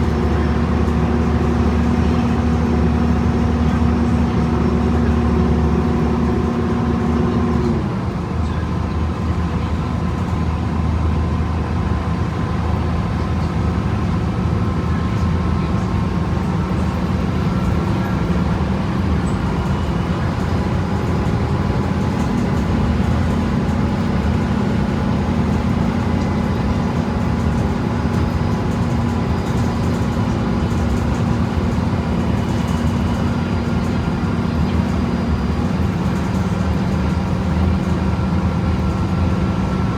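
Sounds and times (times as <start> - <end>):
bus drivetrain whine: 0.0 - 39.9.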